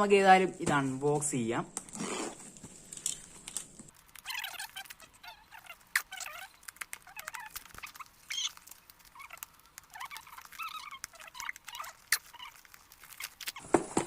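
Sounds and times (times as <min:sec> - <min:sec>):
plastic packaging crinkling: 0:01.8 - 0:13.9.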